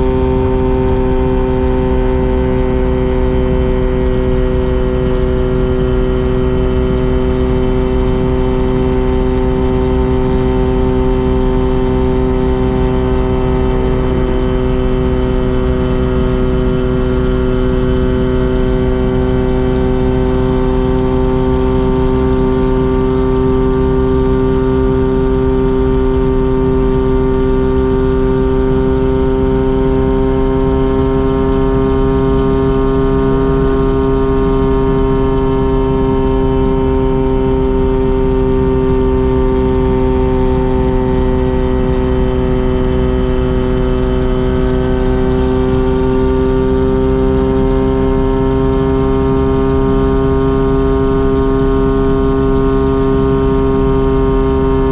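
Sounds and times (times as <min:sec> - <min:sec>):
rotary engine and exhaust droning: 0:00.0 - 0:54.9.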